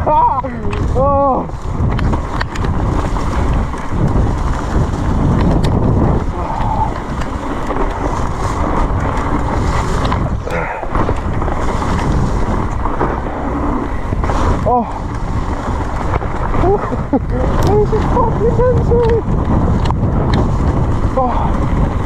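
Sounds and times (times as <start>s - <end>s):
bike clacking over rough ground: 0.0s - 22.0s
mountain bike rumbling on trail: 0.0s - 22.0s
wind buffeting microphone: 0.0s - 22.0s.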